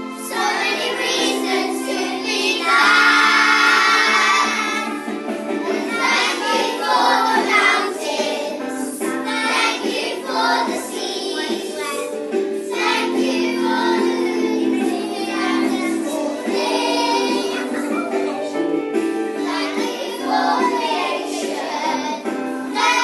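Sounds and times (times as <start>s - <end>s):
children singing together: 0.0s - 23.0s
musical accompaniment: 0.0s - 23.0s.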